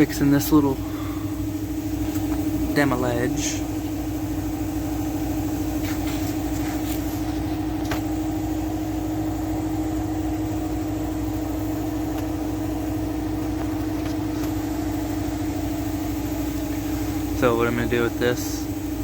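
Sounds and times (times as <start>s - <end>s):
shop machinery humming: 0.0s - 19.0s.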